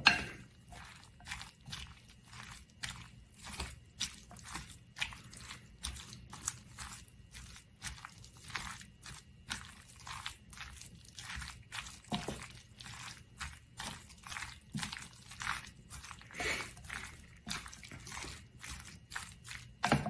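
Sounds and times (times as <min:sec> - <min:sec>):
wet squishing and scraping in bowl: 0:00.0 - 0:20.0.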